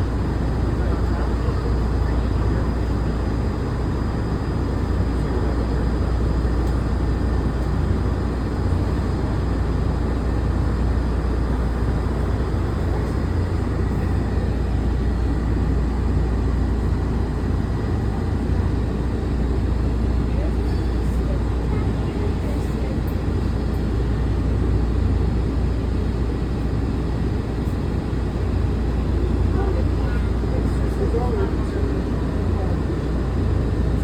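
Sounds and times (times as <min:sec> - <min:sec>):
monorail train rumble: 0:00.0 - 0:34.0.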